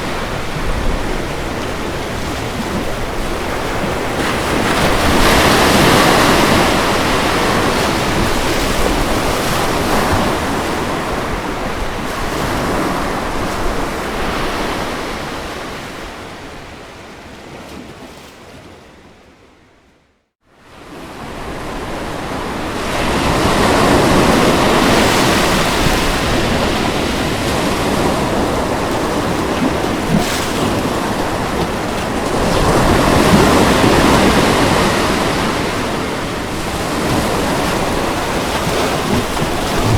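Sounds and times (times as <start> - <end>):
ocean waves washing onto shore: 0.0 - 19.0, 20.6 - 39.9.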